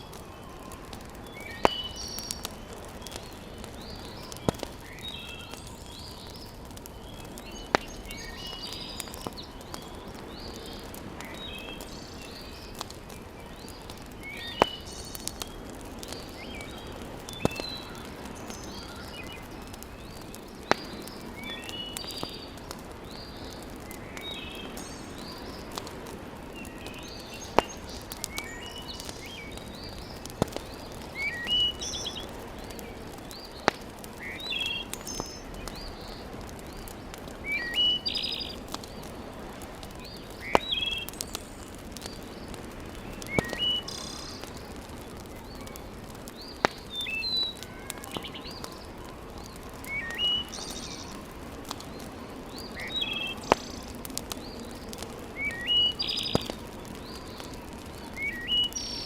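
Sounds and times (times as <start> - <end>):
birds chirping: 0.0 - 39.2, 39.8 - 59.0
wood fire crackling: 0.0 - 59.0.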